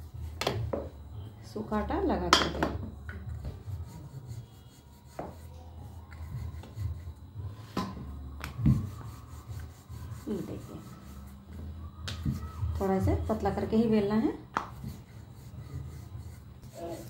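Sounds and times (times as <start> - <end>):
rolling pin rubbing on dough: 3.0 - 17.0.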